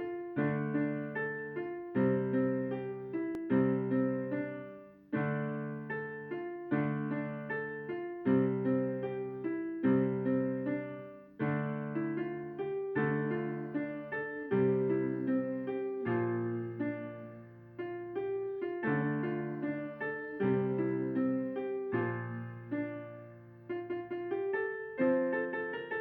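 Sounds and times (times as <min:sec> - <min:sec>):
slow piano piece: 0:00.0 - 0:26.0.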